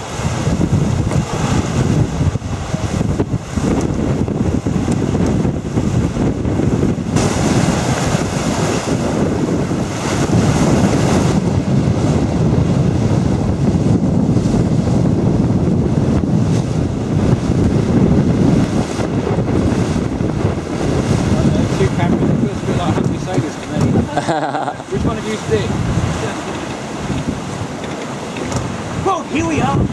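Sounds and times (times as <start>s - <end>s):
bow wave rushing along hull: 0.0s - 29.9s
wind buffeting microphone: 0.0s - 29.9s.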